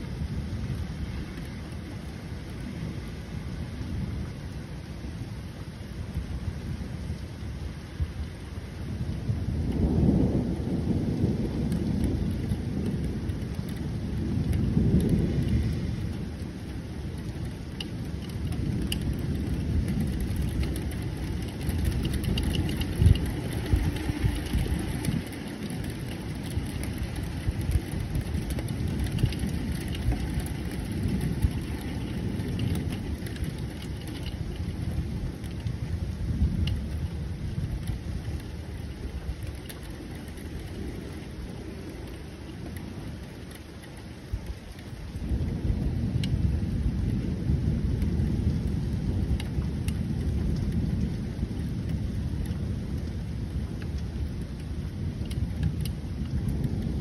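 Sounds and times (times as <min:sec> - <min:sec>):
low rolling thunder: 0:00.0 - 0:57.0
rain hiss: 0:00.0 - 0:57.0.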